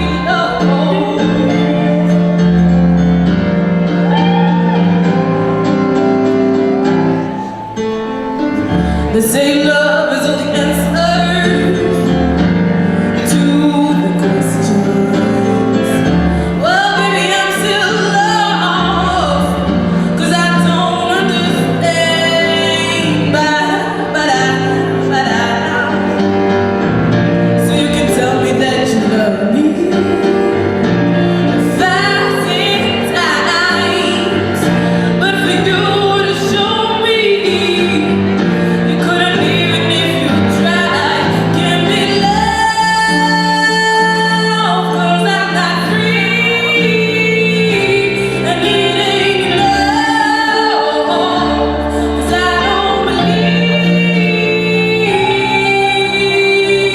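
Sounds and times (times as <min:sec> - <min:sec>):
woman singing: 0:00.0 - 0:03.1, 0:08.6 - 0:26.5, 0:27.5 - 0:56.9
instrumental accompaniment: 0:00.0 - 0:56.9.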